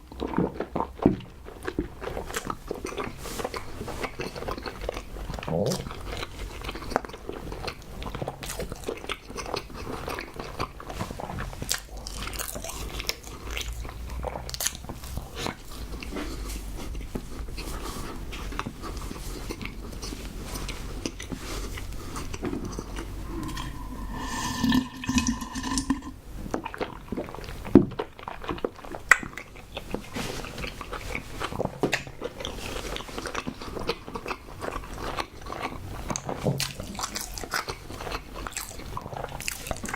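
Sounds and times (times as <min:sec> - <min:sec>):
mouth chewing and biting: 0:00.0 - 0:39.9.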